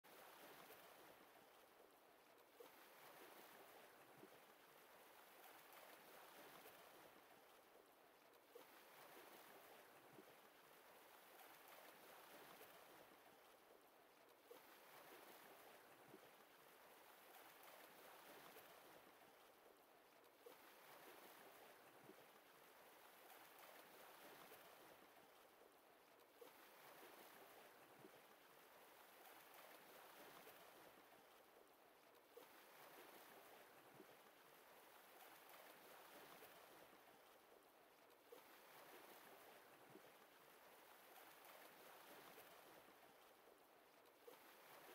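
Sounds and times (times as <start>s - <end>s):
lake water lapping: 0.1s - 44.9s
small water splash: 0.1s - 44.9s.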